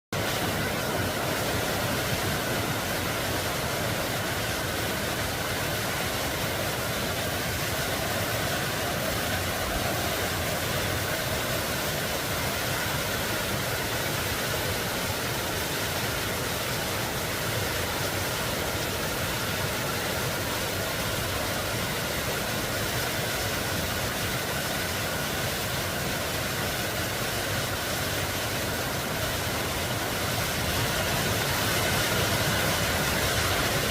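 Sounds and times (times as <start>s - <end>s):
stream rushing over rocks: 0.1s - 33.9s.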